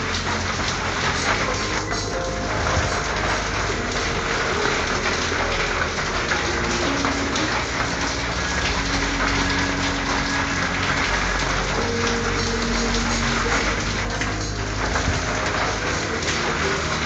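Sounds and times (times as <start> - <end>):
rain on a tin roof: 0.0 - 17.0.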